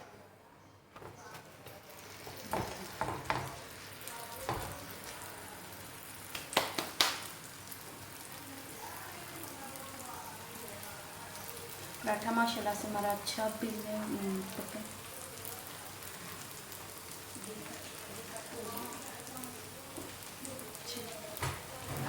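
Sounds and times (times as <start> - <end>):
bread sizzling in a pan: 1.0 - 22.0.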